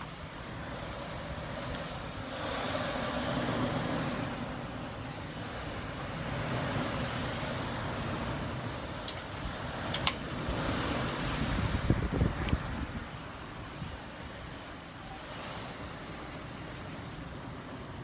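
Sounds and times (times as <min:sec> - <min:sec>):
wind rushing around building: 0:00.0 - 0:14.5.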